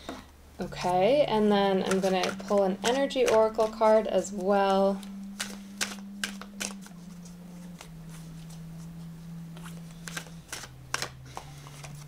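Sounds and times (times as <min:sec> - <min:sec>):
steady low hum: 0:00.0 - 0:12.0
cards being shuffled: 0:01.7 - 0:12.0.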